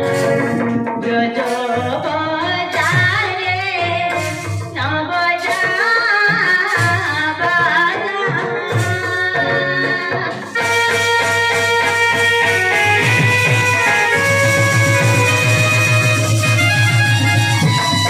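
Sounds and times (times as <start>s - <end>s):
person singing through microphone: 0.0s - 16.5s
drum accompaniment: 0.0s - 18.0s.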